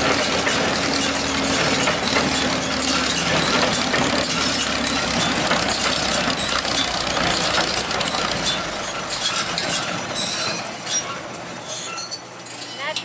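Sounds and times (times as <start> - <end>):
baler clattering and clinking: 0.0 - 13.0
engine low rumble: 0.0 - 13.0.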